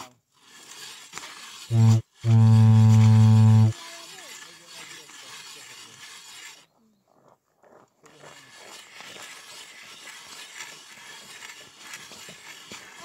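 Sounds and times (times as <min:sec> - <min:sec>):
ice auger grinding through ice: 0:00.0 - 0:06.7, 0:08.0 - 0:13.0.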